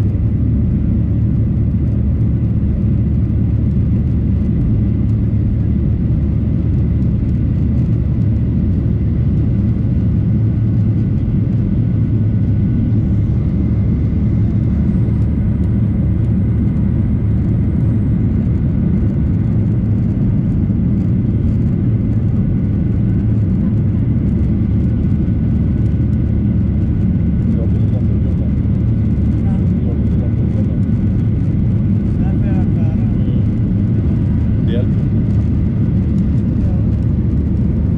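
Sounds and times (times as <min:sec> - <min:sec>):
airplane cabin low rumble: 0:00.0 - 0:37.9
faint steady whine: 0:00.0 - 0:37.9.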